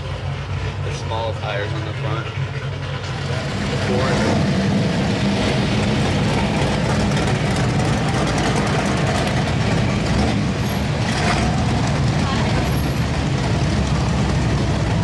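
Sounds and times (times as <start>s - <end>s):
loud vehicle engine running: 0.0s - 15.0s.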